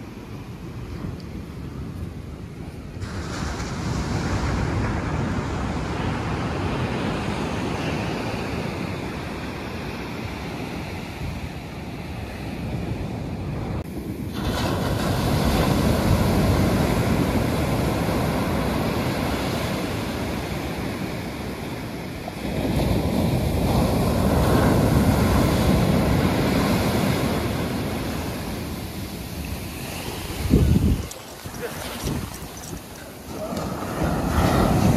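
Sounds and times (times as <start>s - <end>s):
surf washing up a sandy shore: 0.0s - 34.9s.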